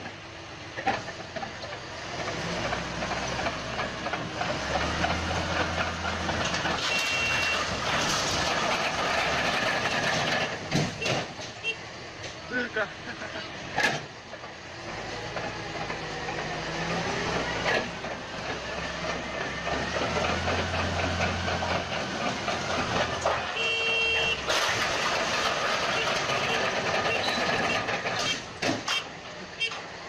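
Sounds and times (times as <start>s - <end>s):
bulldozer engine under load: 0.0s - 30.0s.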